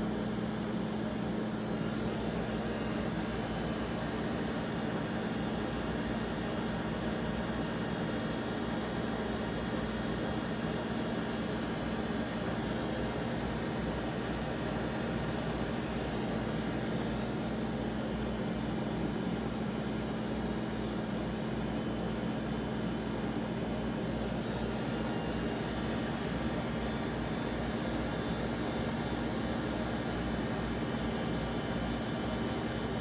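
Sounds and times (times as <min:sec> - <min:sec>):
lathe whirring hum: 0:00.0 - 0:33.0.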